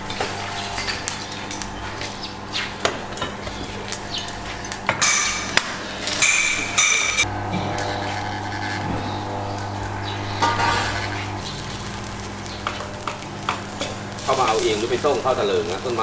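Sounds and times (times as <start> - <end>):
shovel scraping charcoal: 0.0 - 16.0
steady low hum: 0.0 - 16.0.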